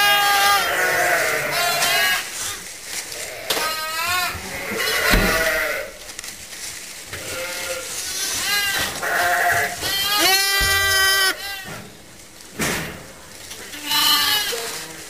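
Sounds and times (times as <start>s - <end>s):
lambs bleating: 0.0s - 6.1s, 7.1s - 11.9s, 13.6s - 15.0s.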